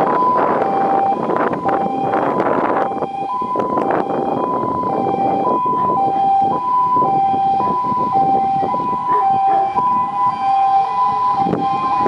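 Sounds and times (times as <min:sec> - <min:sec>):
fire engine two-tone siren: 0:00.0 - 0:12.0
traffic: 0:00.0 - 0:12.0
truck engines rumbling: 0:00.0 - 0:12.0.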